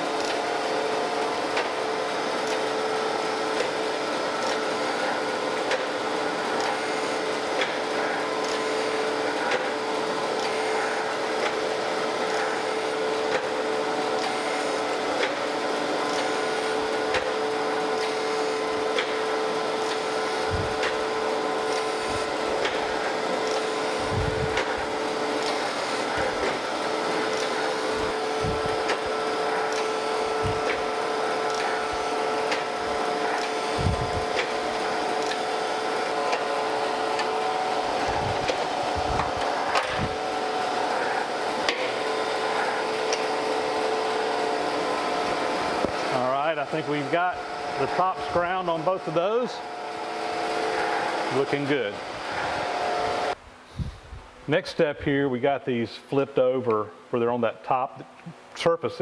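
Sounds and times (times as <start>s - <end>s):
surface grinder spindle hum: 0.0s - 53.9s
grinding wheel hiss: 0.0s - 54.0s.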